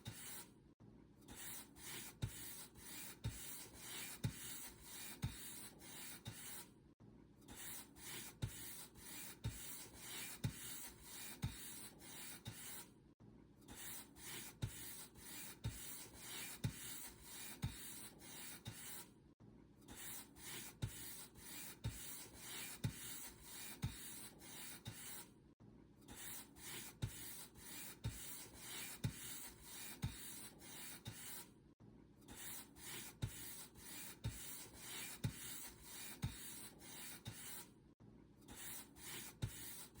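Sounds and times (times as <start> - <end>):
paint brush strokes scratching: 1.3 - 6.7, 7.5 - 12.9, 13.7 - 19.1, 19.9 - 25.3, 26.1 - 31.5, 32.3 - 37.7, 38.5 - 40.0.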